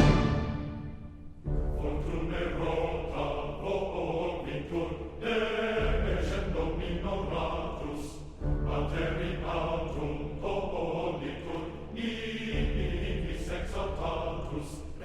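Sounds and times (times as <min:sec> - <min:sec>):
choir-like chanting voices: 0:00.0 - 0:15.0.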